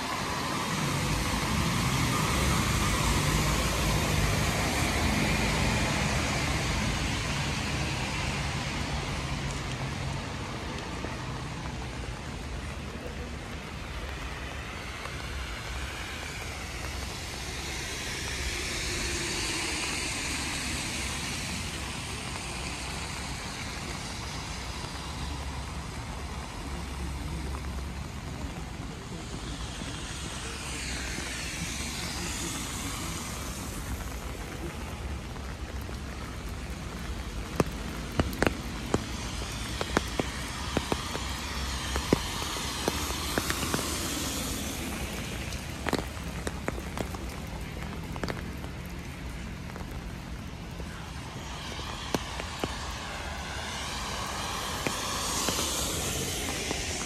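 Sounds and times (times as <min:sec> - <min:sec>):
car tyres hissing through water: 0:00.0 - 0:57.0
steady rain: 0:00.0 - 0:57.0.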